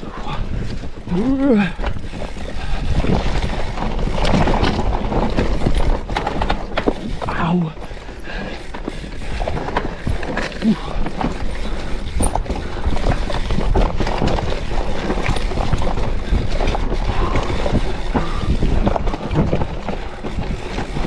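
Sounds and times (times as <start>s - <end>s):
bike rattling over bumps: 0.0s - 21.0s
wind rumble on microphone: 0.0s - 21.0s.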